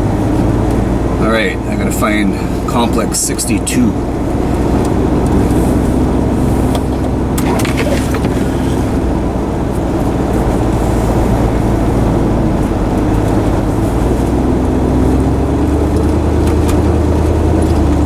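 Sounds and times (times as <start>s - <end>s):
vehicle engine and road drone: 0.0s - 18.0s.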